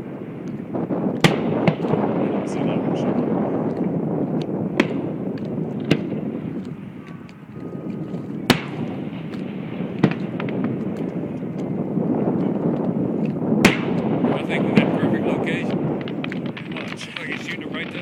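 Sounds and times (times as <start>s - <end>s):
continuous rumbling: 0.0s - 18.0s
fireworks bangs and pops: 0.0s - 18.0s.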